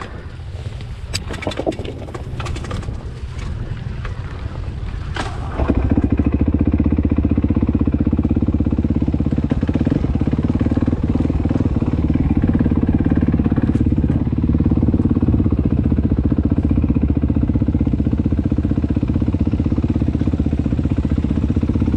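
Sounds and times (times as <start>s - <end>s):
dirt bike engine running: 0.0s - 21.9s.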